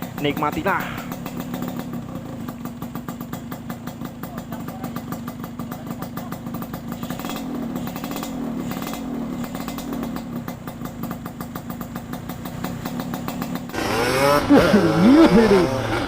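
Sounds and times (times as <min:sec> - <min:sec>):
two-stroke motorcycle engine crackling: 0:00.0 - 0:16.0.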